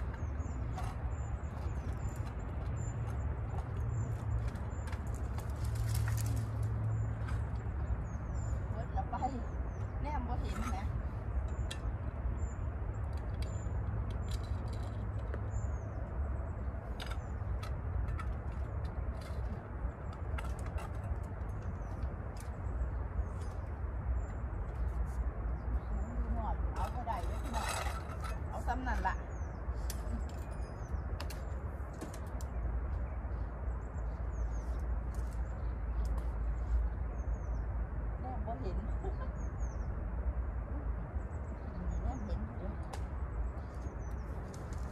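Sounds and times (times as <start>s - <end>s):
songbird chirping: 0.0s - 44.9s
steady low rumble: 0.0s - 44.9s.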